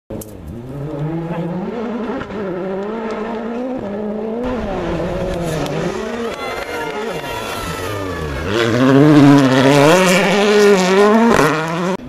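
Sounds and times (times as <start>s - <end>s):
rally car engine revving: 0.1s - 12.0s.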